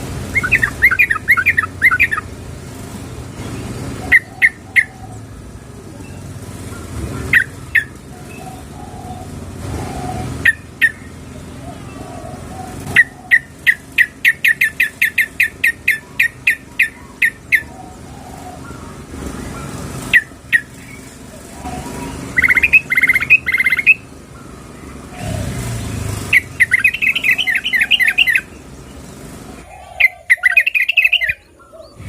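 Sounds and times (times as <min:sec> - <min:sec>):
bird chip notes and trills: 0:00.0 - 0:32.0.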